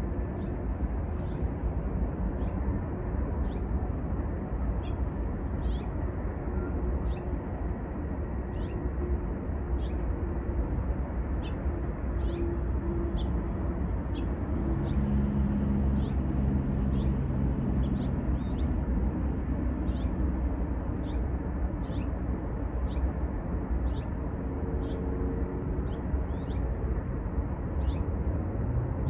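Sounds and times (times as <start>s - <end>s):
distant train rumble: 0.0s - 29.0s.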